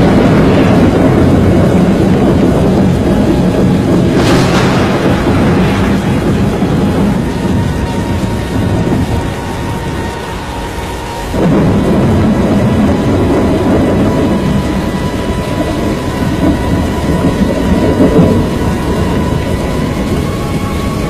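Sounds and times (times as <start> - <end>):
rain: 0.0 - 21.0
storm wind buffeting microphone: 0.0 - 21.0.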